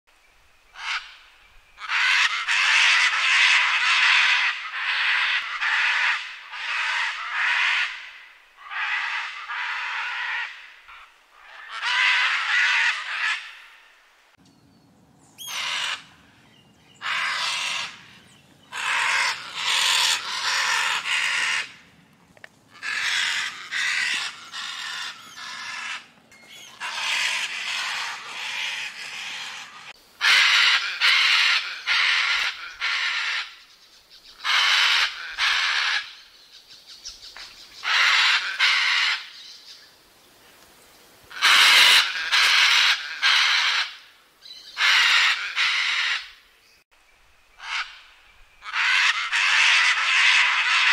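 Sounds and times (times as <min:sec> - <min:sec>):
macaw squawking: 0:00.8 - 0:01.2, 0:01.8 - 0:13.8, 0:15.4 - 0:16.2, 0:17.0 - 0:21.9, 0:22.7 - 0:33.6, 0:34.4 - 0:36.2, 0:37.8 - 0:39.4, 0:41.3 - 0:46.4, 0:47.6 - 0:50.9.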